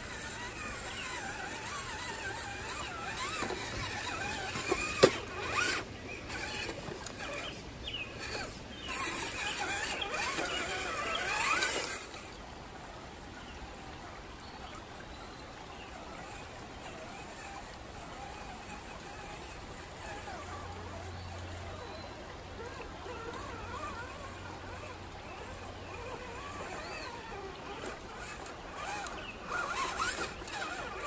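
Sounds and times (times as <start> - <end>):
electric motor and gears whining: 0.0 - 31.0.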